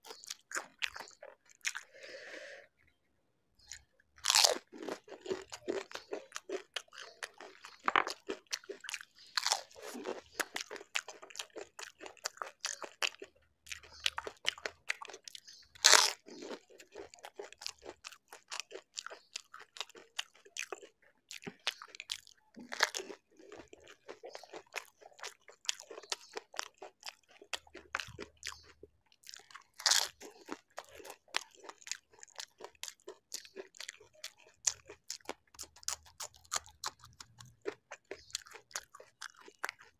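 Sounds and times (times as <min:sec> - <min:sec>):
crackly chewing sounds: 0:00.0 - 0:03.0, 0:03.6 - 0:39.9
crisp shells crunching when bitten: 0:03.7 - 0:13.2, 0:15.8 - 0:39.9.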